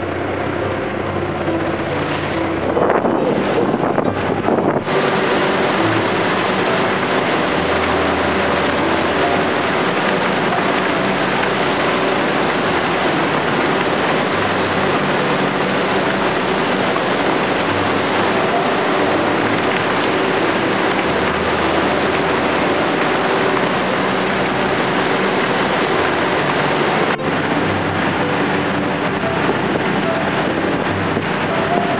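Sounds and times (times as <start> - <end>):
dense rushing noise: 0.0 - 31.9
machinery drone: 0.0 - 31.9.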